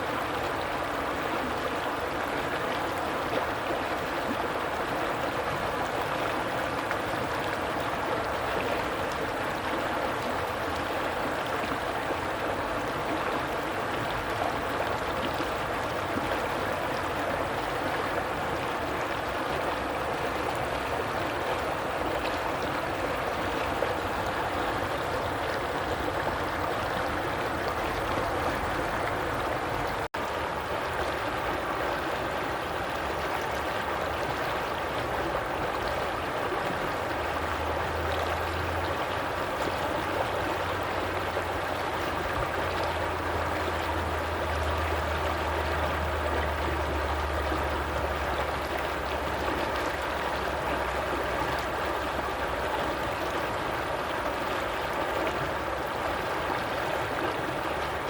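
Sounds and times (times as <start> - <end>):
water flowing in a stream: 0.0 - 58.0.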